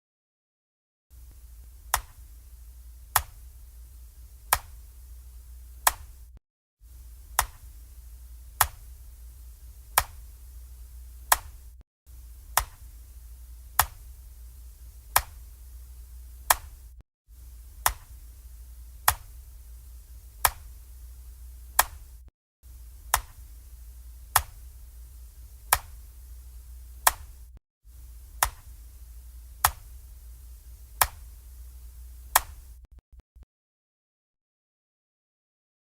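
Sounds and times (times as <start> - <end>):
low steady hum: 1.2 - 33.0.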